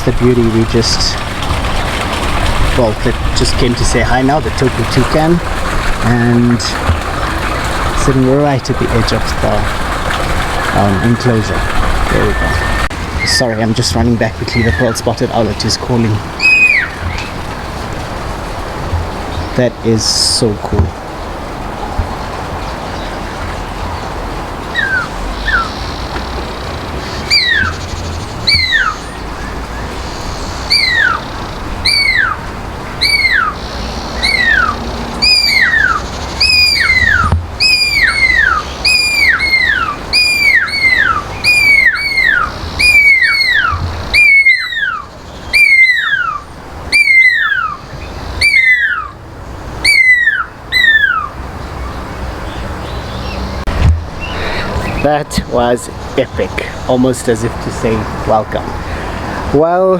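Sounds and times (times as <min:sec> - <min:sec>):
owlet whistling calls: 0:02.7 - 0:17.6, 0:24.7 - 0:58.4.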